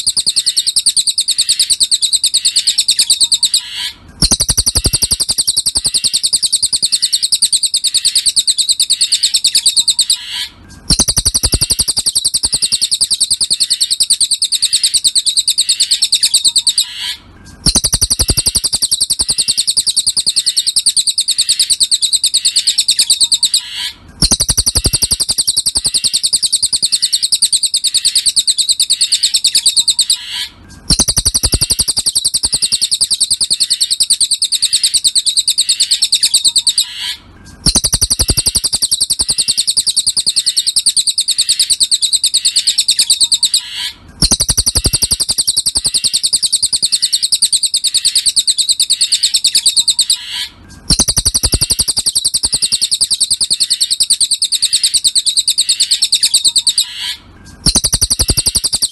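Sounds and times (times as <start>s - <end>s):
bird singing rapid high trill: 0.0s - 58.9s.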